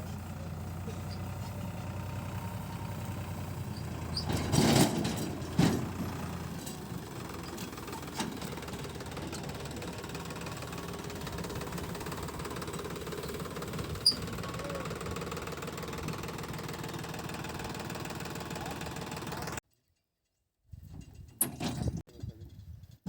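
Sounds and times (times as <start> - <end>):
tractor engine running: 0.0 - 19.6.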